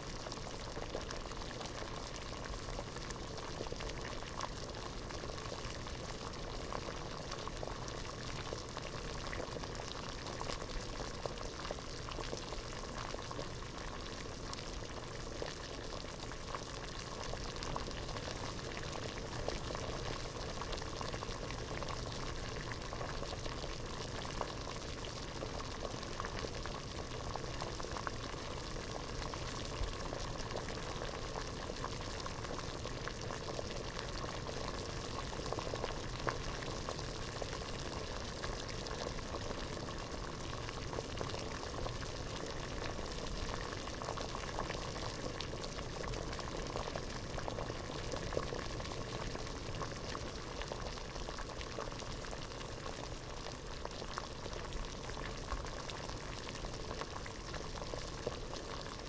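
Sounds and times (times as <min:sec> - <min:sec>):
water boiling in a pot: 0:00.0 - 0:59.0.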